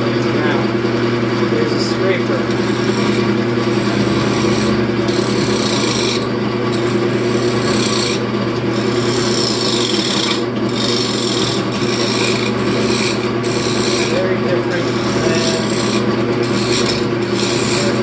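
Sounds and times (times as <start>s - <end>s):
lathe motor hum: 0.0s - 18.0s
scraper rasping on spinning wood: 2.4s - 18.0s.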